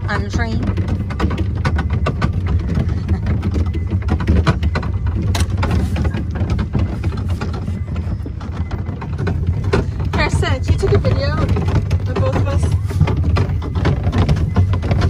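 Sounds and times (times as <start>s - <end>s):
ride train rumbling: 0.0s - 15.0s
train cars rattling and clacking: 0.0s - 15.0s.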